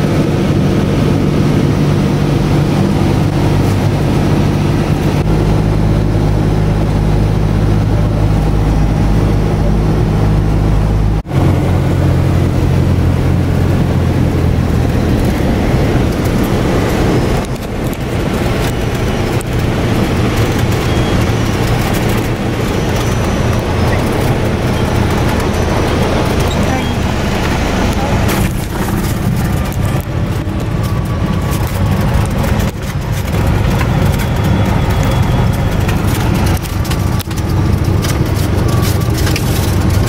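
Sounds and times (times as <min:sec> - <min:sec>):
aircraft engine and propeller droning: 0:00.0 - 0:40.0.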